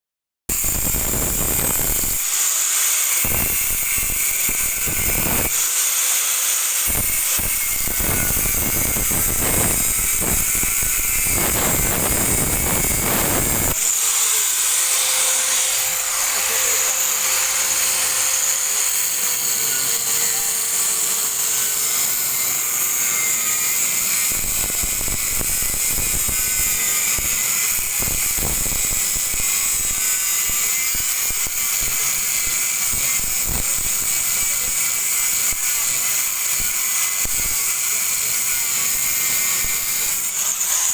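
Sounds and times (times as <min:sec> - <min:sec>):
angle grinder cutting steel: 0:00.5 - 0:40.9.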